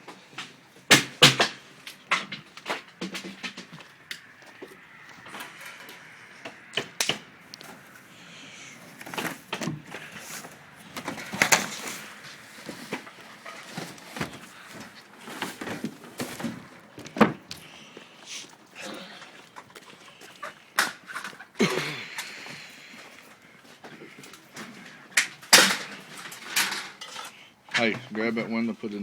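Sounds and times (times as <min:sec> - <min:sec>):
knocks clicks and scrapes of tools: 0:00.0 - 0:21.5, 0:23.8 - 0:28.1.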